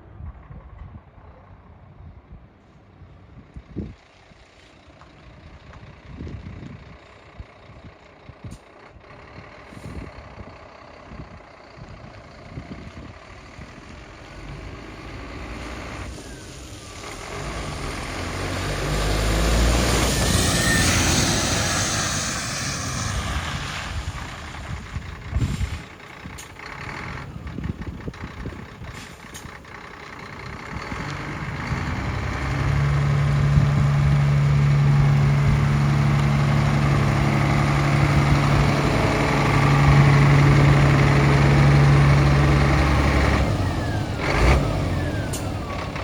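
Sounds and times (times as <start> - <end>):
heavy truck driving by: 2.8 - 46.0.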